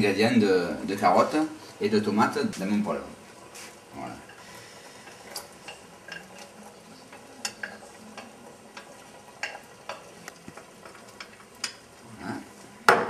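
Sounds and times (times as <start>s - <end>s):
faint sizzling: 0.0s - 13.0s.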